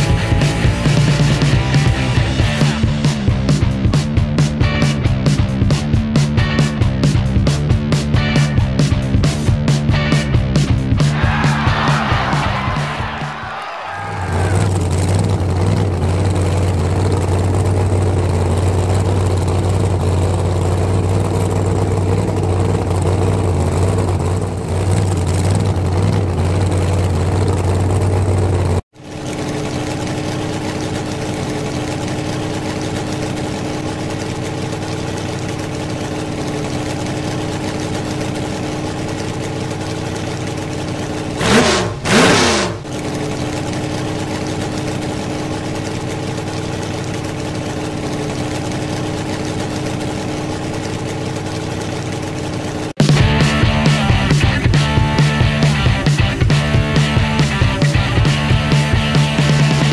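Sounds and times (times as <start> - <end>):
engine idling sound effect: 0.0 - 59.9.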